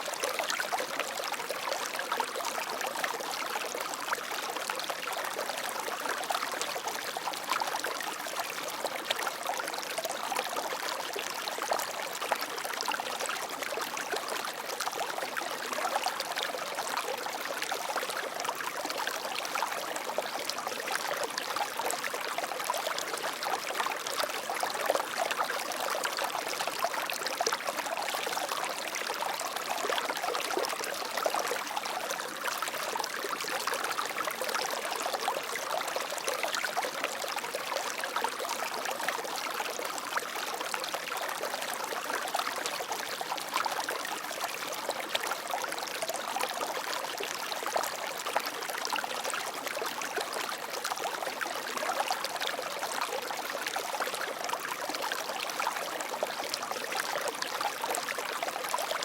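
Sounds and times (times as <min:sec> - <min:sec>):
water trickling stream: 0:00.0 - 0:59.0.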